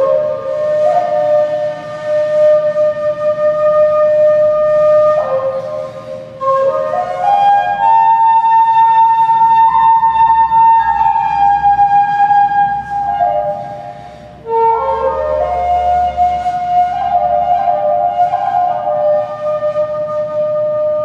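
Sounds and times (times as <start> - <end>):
solo flute long notes: 0.0 - 21.0.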